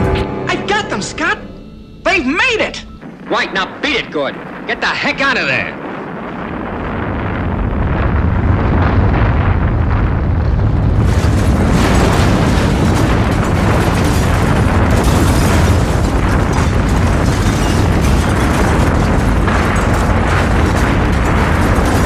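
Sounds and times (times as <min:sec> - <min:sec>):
rumble of crashing masonry: 0:02.2 - 0:22.0.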